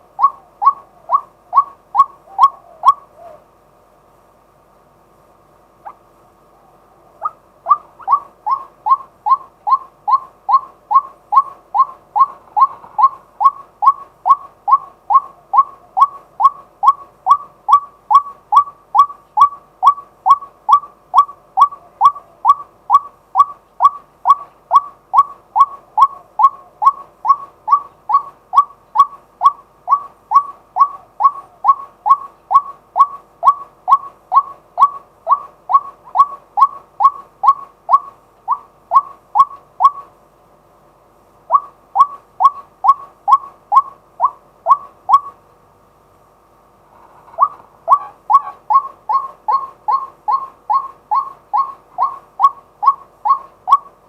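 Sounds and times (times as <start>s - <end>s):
waterhen calling sharp notes: 0.1s - 3.4s, 7.2s - 40.1s, 41.5s - 45.4s, 47.0s - 54.0s.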